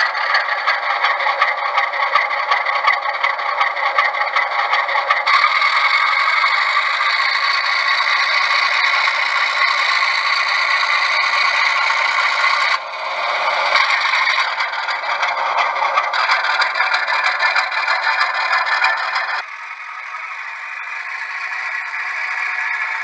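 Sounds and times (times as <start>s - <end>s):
model train clattering on rails: 0.0s - 19.4s.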